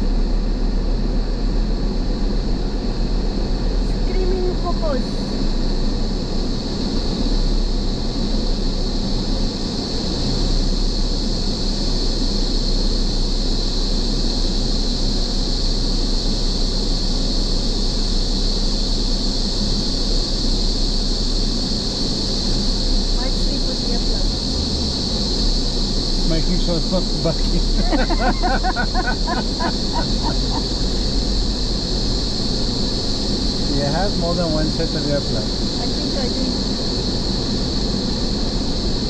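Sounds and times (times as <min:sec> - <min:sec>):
cicadas droning: 0:01.0 - 0:39.0
truck rolling slowly rumble: 0:05.2 - 0:39.0.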